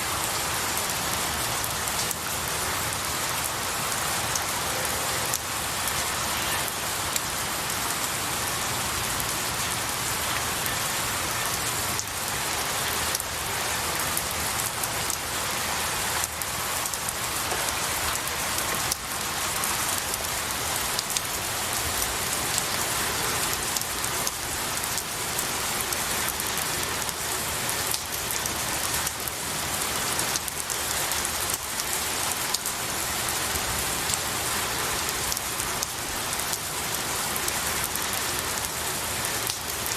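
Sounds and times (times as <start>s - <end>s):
rain on pine needles: 0.0s - 39.9s.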